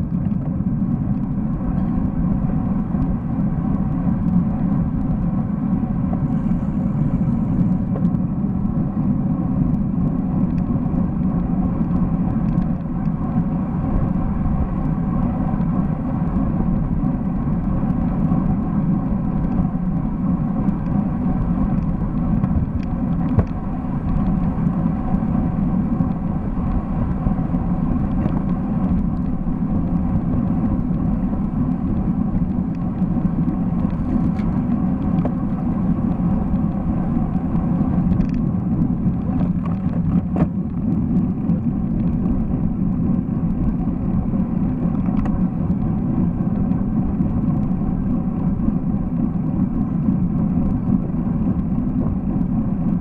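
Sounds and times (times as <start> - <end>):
wind and road noise rumble: 0.0 - 53.0.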